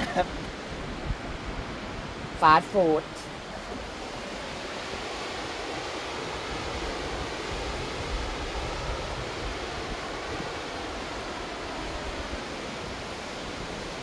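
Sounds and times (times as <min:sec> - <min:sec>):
wind rumbling on microphone: 0:00.0 - 0:02.4, 0:03.0 - 0:14.0
stream water rushing: 0:00.0 - 0:14.0.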